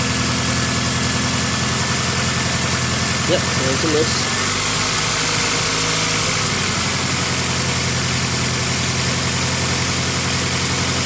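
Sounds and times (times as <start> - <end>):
car engine idling with misfire: 0.0 - 11.0.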